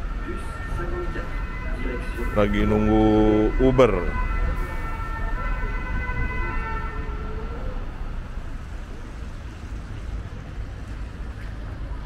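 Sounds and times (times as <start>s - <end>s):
low rumble of passing vehicles: 0.0s - 12.0s.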